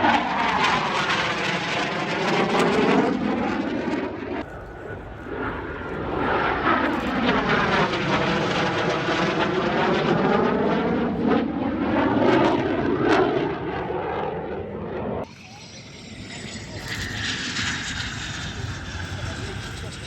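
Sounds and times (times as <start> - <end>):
aircraft flying past: 0.0 - 20.0.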